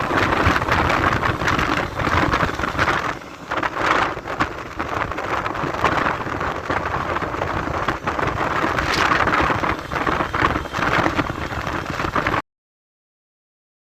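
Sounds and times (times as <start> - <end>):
motorcycle engine running: 0.0 - 12.4
wind rushing over microphone: 0.0 - 12.4.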